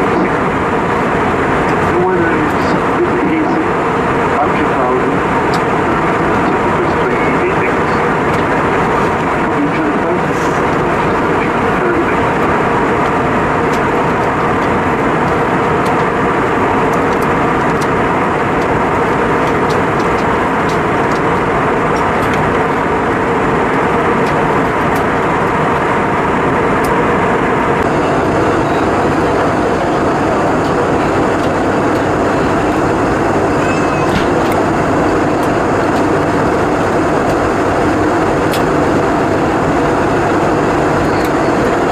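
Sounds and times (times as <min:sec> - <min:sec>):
airflow rushing over fuselage: 0:00.0 - 0:41.9
jet engines droning: 0:00.0 - 0:41.9.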